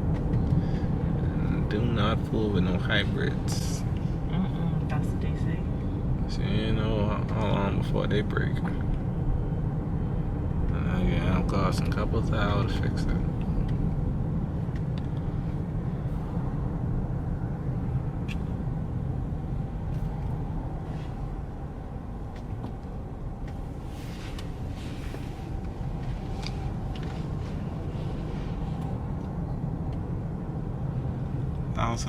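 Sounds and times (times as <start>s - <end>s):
road and engine rumble in car: 0.0s - 32.0s.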